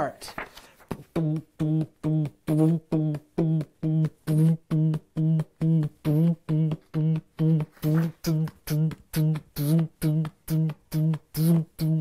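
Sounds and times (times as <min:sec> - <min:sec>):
man making vocal beat: 0:00.0 - 0:12.0.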